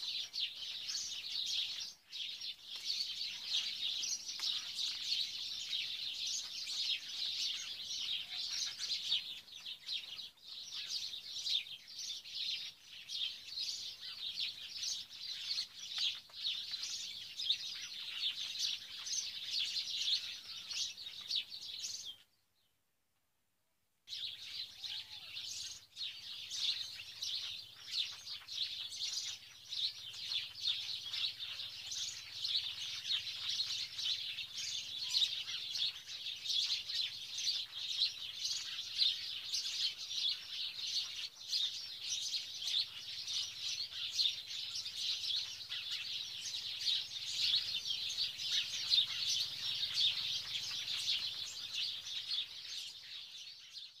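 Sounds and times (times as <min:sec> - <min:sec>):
birds chirping in dense chorus: 0:00.0 - 0:22.8, 0:24.1 - 0:54.0.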